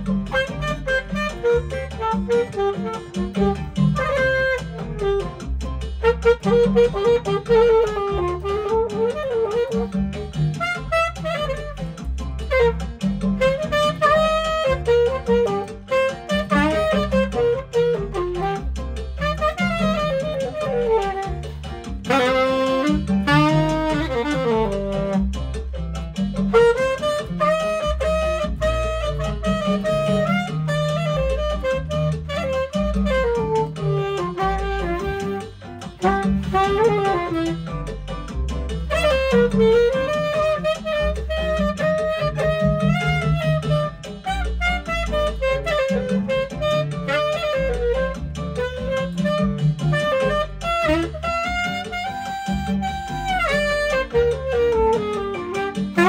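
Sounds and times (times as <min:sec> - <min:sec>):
alto saxophone jazz melody: 0:00.0 - 0:56.0
backing track with bass and percussion: 0:00.0 - 0:56.0.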